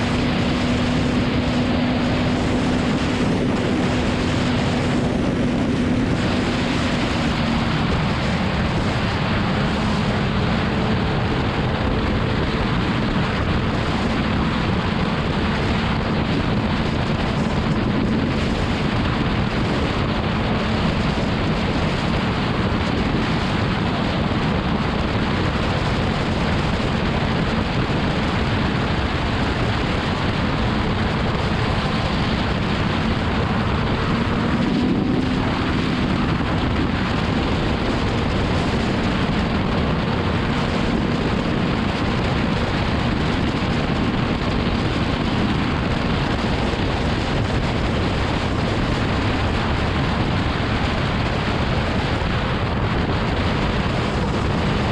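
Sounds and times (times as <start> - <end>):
motorcycle engine cruising: 0.0 - 54.9
wind rush over microphone: 0.0 - 54.9.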